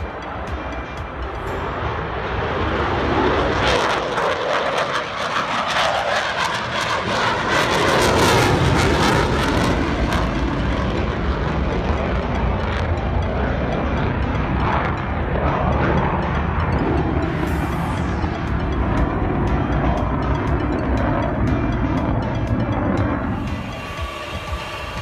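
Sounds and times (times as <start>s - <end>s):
aircraft flying past: 0.1s - 25.0s.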